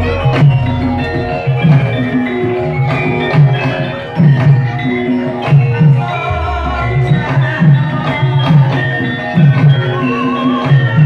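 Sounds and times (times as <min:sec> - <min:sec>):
ringing metal-keyed instruments: 0:00.0 - 0:11.0.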